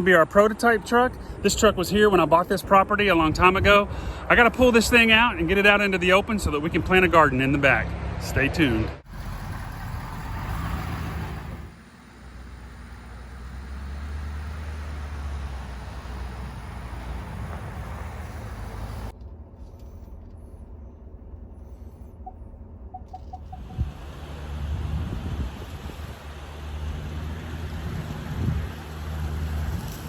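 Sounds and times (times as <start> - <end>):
vehicle engine low rumble: 0.0 - 30.0.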